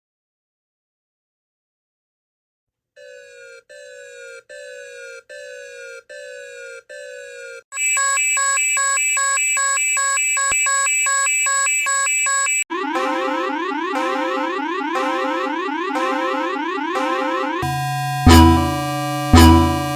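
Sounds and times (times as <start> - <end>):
fast-alternating multi-tone alarm: 3.0 - 19.9.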